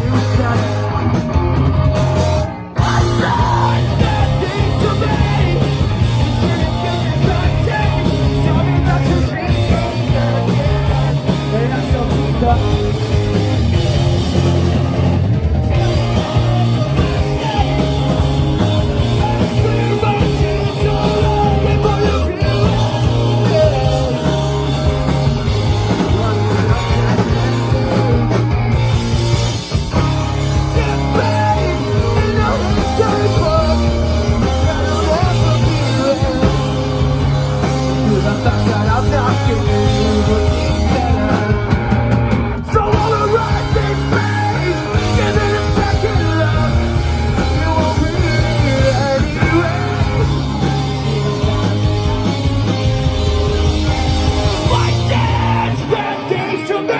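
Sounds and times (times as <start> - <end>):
pop-punk band playing: 0.0 - 56.9
person singing and shouting: 2.4 - 14.2, 15.6 - 28.5, 30.5 - 41.8, 42.6 - 56.9.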